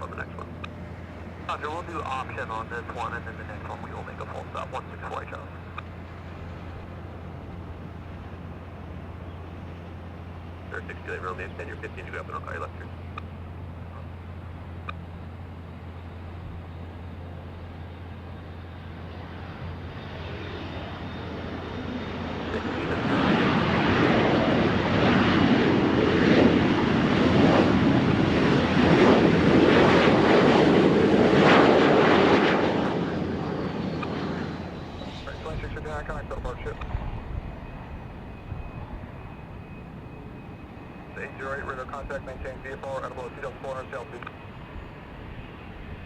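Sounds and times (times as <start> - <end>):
plane engine passing: 0.0 - 46.0.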